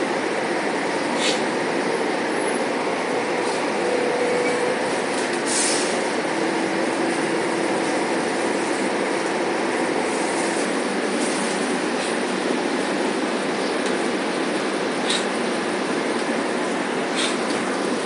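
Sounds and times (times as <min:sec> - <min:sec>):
bus engine and road drone: 0:00.0 - 0:18.0.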